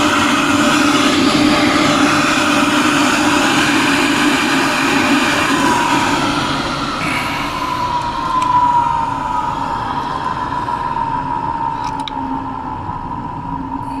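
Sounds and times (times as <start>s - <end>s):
vent motor whine: 0.0s - 14.0s.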